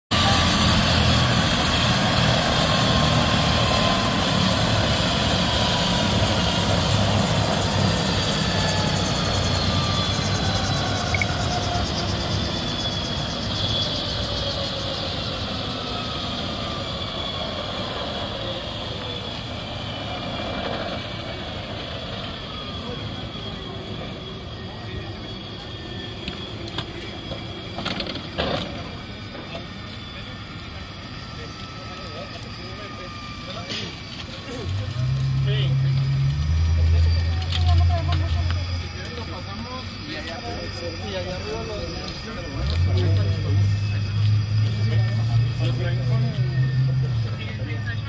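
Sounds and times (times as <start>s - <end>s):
helicopter rotor noise: 0.1s - 48.0s
helicopter turbine whine: 0.1s - 48.0s.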